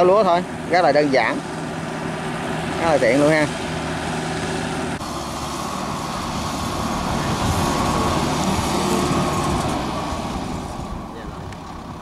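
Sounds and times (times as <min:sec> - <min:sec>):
tiller engine running: 0:00.0 - 0:12.0.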